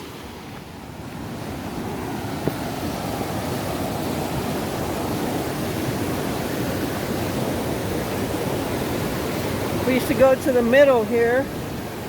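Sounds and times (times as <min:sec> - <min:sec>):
water rushing through dam: 0:00.0 - 0:12.0.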